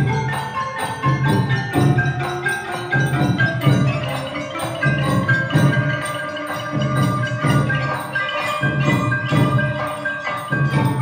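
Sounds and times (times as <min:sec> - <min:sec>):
gong-circle notes ringing: 0:00.0 - 0:11.0
wooden xylophones: 0:00.0 - 0:11.0.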